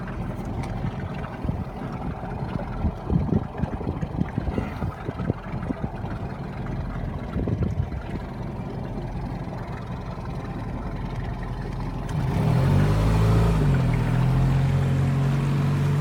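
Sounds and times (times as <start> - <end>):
motorboat engine rumble: 0.0 - 16.0.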